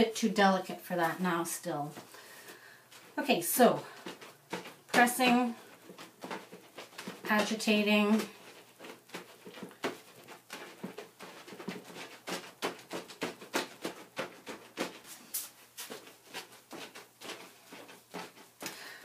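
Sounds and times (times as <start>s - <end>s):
wet hands patting wool: 0.2s - 19.0s.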